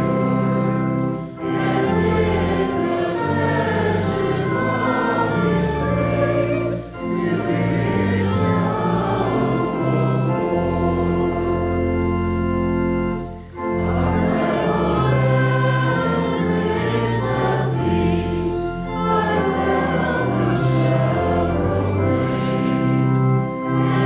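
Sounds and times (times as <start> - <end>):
congregation singing a hymn: 0.0 - 24.0
pipe organ: 0.0 - 24.0.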